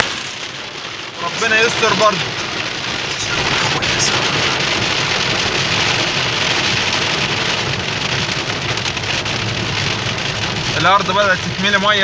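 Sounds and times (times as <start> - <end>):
heavy rain on a car: 0.0 - 12.0
low road rumble: 0.0 - 12.0.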